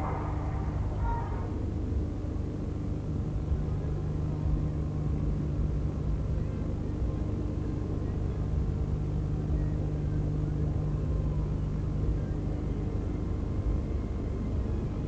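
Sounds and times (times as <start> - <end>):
dull background rumble: 0.0 - 15.0
low hum: 0.0 - 15.0.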